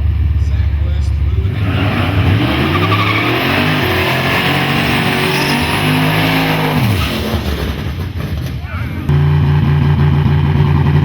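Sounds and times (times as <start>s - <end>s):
drag car engines accelerating: 0.0s - 11.0s.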